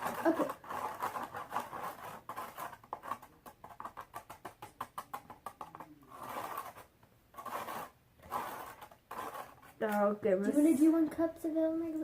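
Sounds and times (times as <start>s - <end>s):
slime being stirred in bowl: 0.0s - 11.3s.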